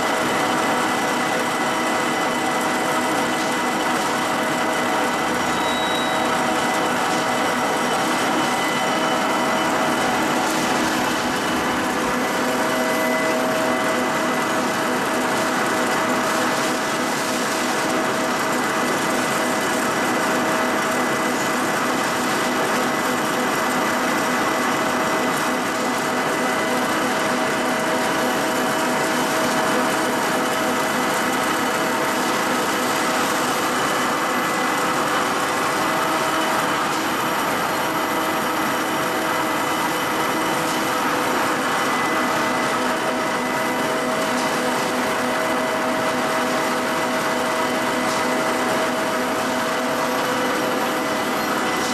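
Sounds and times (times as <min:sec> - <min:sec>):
factory machinery humming and whining: 0:00.0 - 0:51.9.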